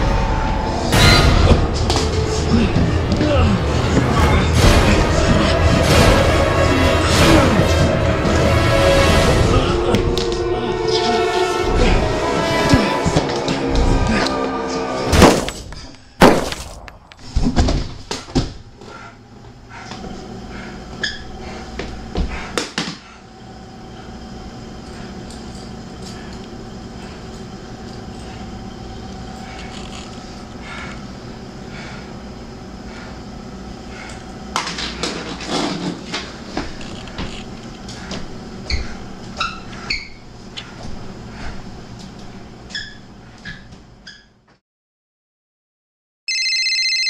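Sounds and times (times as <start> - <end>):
steady drone: 0.0 - 16.2, 18.7 - 42.6.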